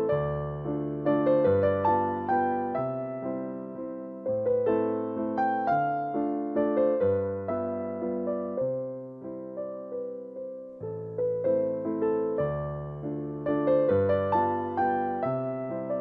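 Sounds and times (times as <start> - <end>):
electric piano melody: 0.0 - 16.0.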